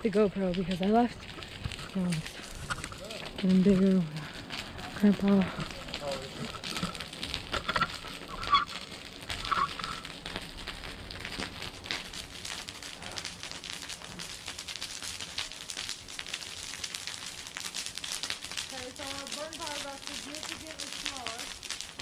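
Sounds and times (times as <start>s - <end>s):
wood pile burning crackle: 0.0s - 22.0s.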